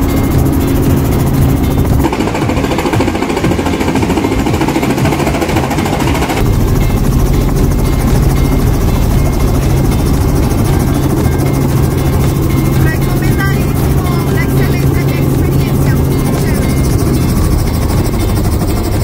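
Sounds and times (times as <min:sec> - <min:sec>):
helicopter engine drone from cabin: 0:00.0 - 0:19.0
helicopter rotor chopping: 0:00.0 - 0:19.0.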